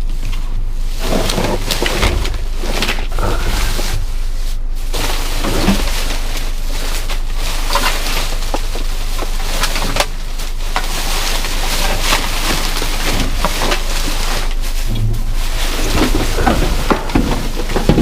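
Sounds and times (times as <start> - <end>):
steady low rumble: 0.0 - 18.0
trash rustling and knocking: 0.0 - 18.0.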